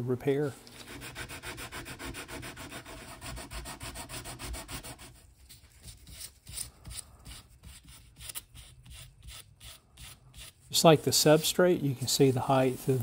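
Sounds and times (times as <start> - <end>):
sanding block rubbing wood: 0.9 - 5.2, 6.9 - 13.0.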